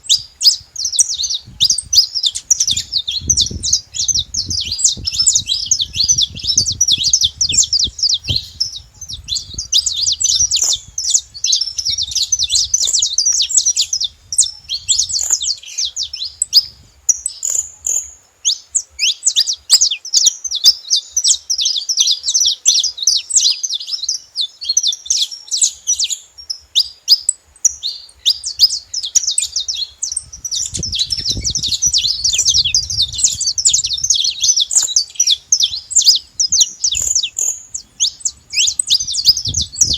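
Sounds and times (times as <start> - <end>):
finch singing chirps and trills: 0.0 - 39.9.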